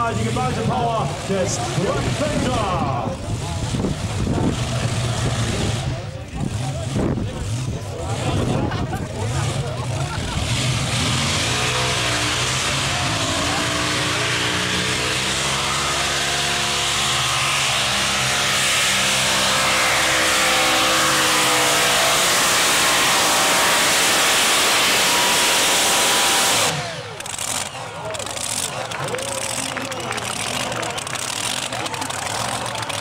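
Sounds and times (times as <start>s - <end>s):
tractor engines at full throttle: 0.0s - 33.0s.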